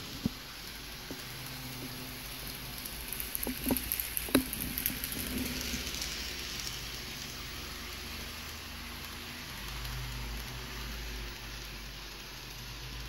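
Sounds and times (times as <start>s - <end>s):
model train rolling hiss: 0.0s - 13.0s.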